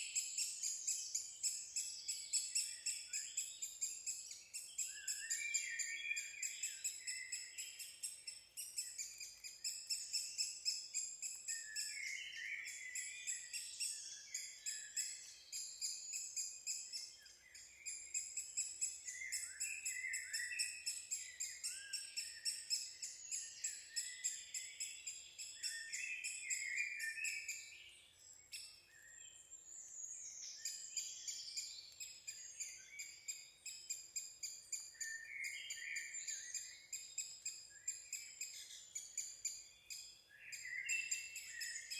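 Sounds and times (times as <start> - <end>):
birds chirping and trilling: 0.0 - 41.9.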